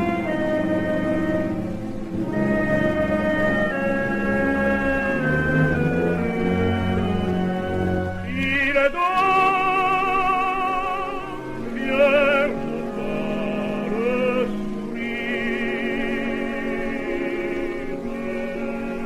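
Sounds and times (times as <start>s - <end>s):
operatic singing on old record: 0.0s - 19.0s.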